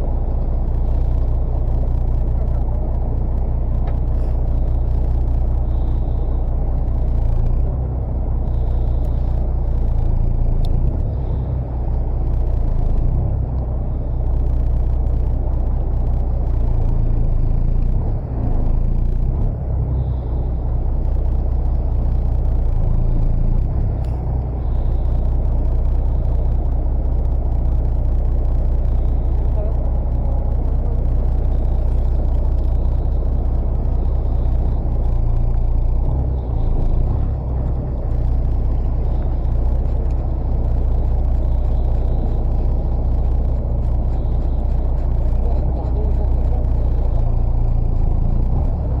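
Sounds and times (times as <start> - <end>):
boat engine droning: 0.0 - 49.0.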